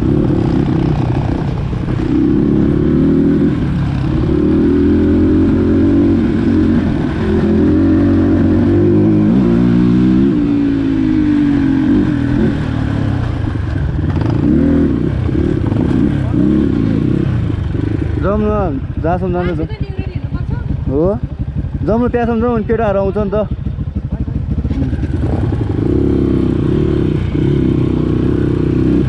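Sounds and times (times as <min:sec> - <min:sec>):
dirt bike engine revving: 0:00.0 - 0:19.1, 0:24.4 - 0:29.0.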